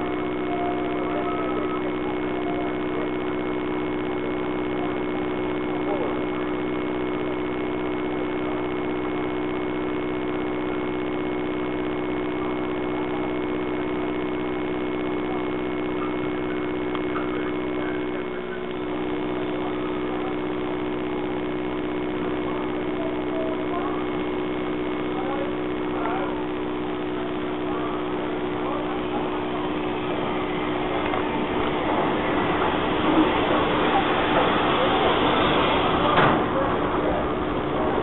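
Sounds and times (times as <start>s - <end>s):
engine idling hum: 0.0s - 38.0s.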